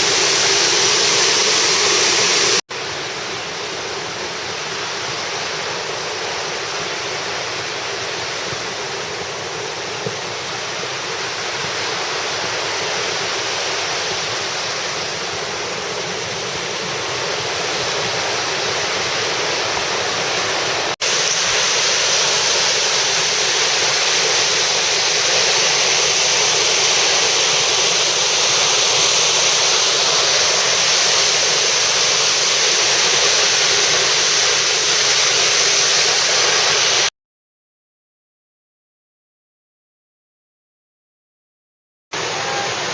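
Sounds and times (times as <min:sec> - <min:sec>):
waterfall roaring: 0:00.0 - 0:37.1, 0:42.2 - 0:42.9.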